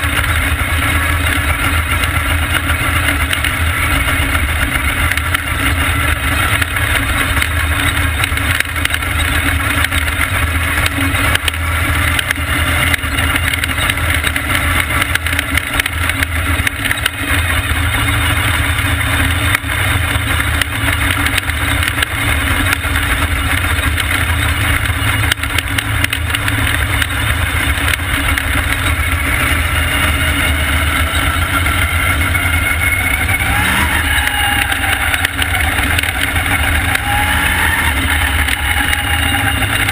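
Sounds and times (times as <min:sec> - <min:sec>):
race car engine running hard: 0:00.0 - 0:39.9
rushing noise: 0:00.0 - 0:39.9.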